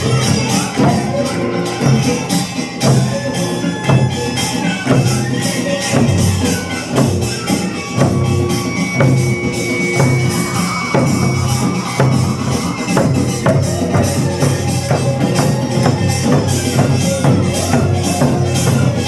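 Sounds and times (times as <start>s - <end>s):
barrel drum strokes: 0.0s - 19.0s
held melodic tones: 0.0s - 19.0s
rapid high percussion: 0.0s - 19.0s.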